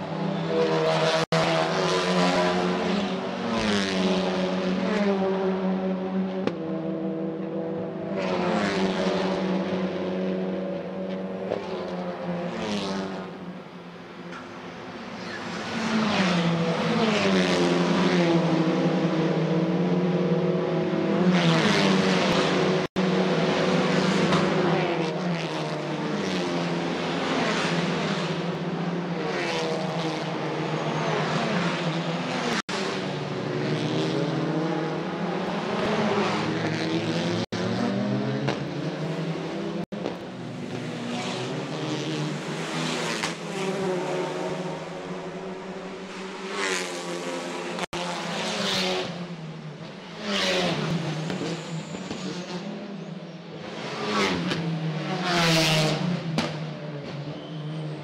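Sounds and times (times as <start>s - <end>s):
racing cars passing at speed: 0.0s - 58.0s.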